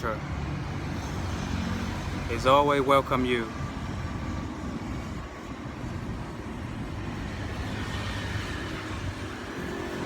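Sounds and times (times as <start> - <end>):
passing vehicle whine: 0.0 - 10.0
rumble of passing traffic: 0.0 - 10.0.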